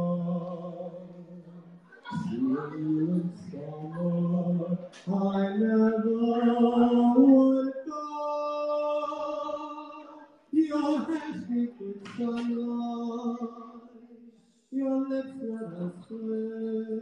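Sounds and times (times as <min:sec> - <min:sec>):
boy singing into a microphone: 0:00.0 - 0:17.0.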